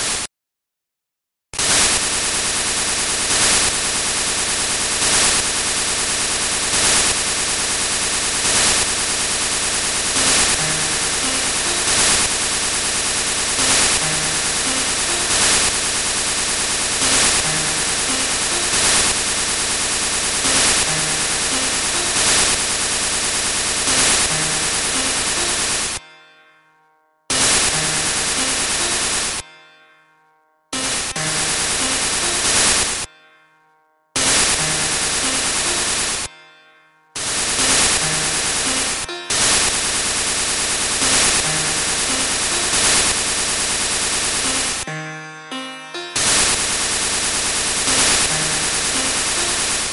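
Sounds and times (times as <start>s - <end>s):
harsh static noise music: 1.6s - 26.0s, 27.3s - 29.5s, 30.8s - 33.1s, 34.2s - 36.3s, 37.2s - 49.9s.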